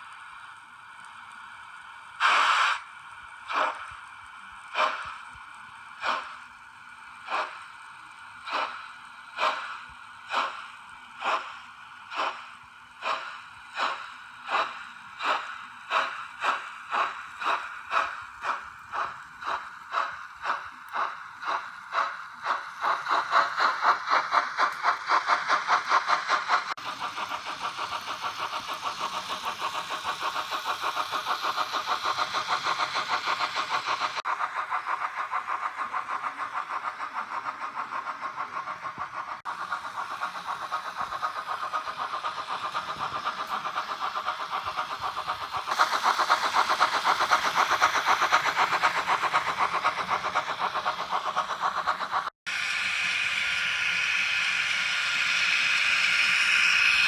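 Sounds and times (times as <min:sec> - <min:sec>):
model steam locomotive chuffing: 0:00.0 - 0:57.0.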